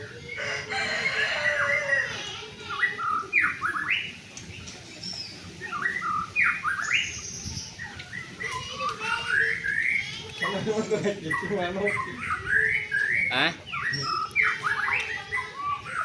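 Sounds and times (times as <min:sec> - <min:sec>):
songbird whistling song: 0:00.0 - 0:16.0.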